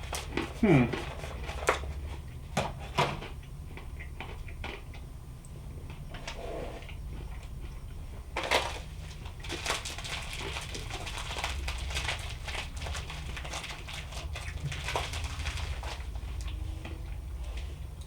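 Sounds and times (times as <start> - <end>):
crunchy chewing of granola: 0.0 - 18.0.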